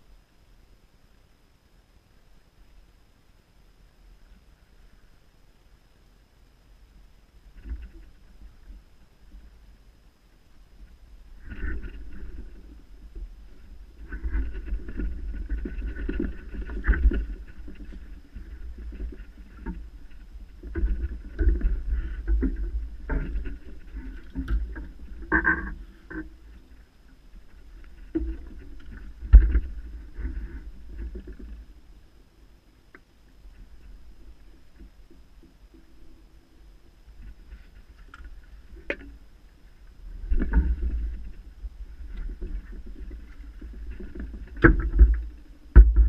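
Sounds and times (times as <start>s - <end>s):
low rumble on microphone: 0.0s - 46.0s.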